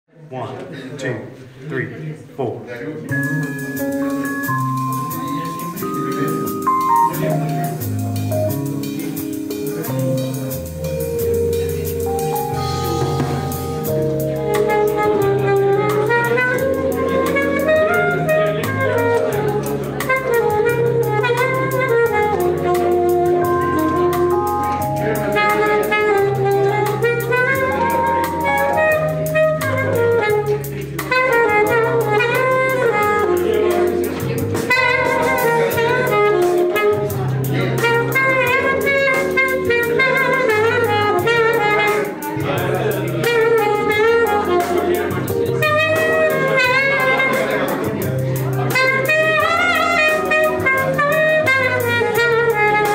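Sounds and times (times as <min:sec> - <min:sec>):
saxophone playing jazzy melody: 0:03.1 - 0:52.9
light drums: 0:03.2 - 0:52.9.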